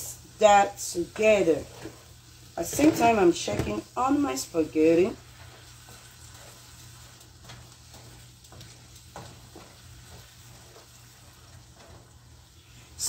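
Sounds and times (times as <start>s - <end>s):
sauce frying in a pan: 0.0s - 13.0s
wooden spoon scraping a pan: 0.4s - 13.0s.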